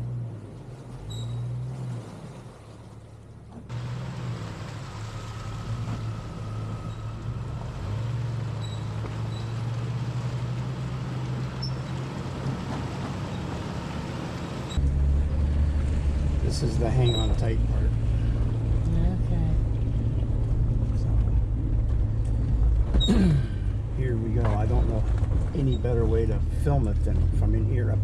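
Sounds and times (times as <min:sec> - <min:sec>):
car engine running: 0:01.7 - 0:28.0.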